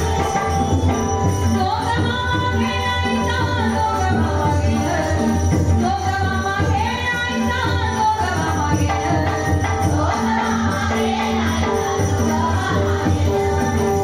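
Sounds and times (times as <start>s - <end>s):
driving percussion: 0.0s - 14.0s
jingling metal cymbals: 0.0s - 14.0s
women singing devotional song: 1.5s - 14.0s.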